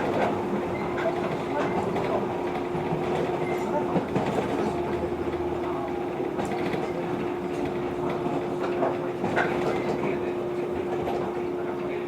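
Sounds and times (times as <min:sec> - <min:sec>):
electric train equipment hum: 0:00.0 - 0:12.0.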